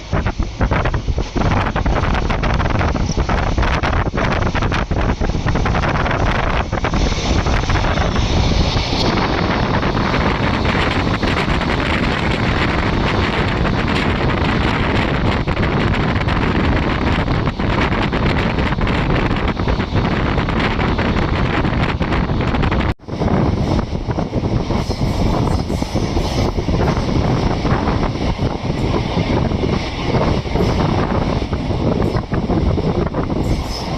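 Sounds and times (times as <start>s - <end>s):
moving train rumble: 0.0s - 33.9s
wind buffeting microphone: 0.0s - 33.9s.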